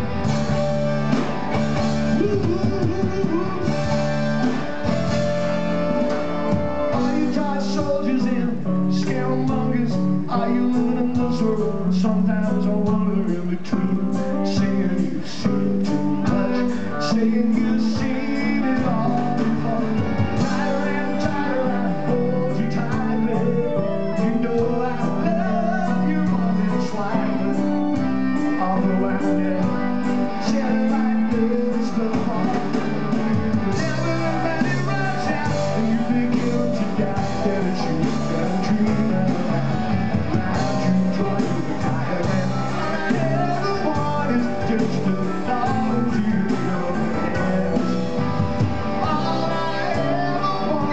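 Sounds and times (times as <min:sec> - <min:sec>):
electric guitar: 0:00.0 - 0:50.9
live rock band playing: 0:00.0 - 0:50.9
man singing: 0:01.8 - 0:05.1, 0:06.0 - 0:50.9.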